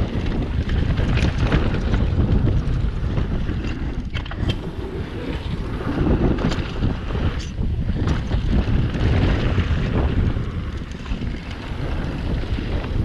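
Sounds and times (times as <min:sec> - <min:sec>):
bike rattling: 0:00.0 - 0:13.0
tyre noise on trail: 0:00.0 - 0:13.0
wind buffeting microphone: 0:00.0 - 0:13.0.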